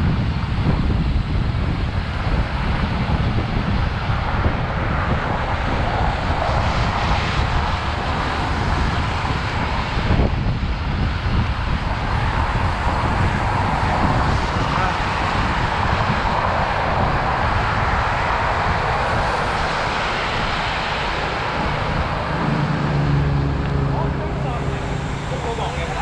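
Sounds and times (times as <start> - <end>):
wind buffeting microphone: 0.0 - 26.0
road noise: 0.1 - 26.0.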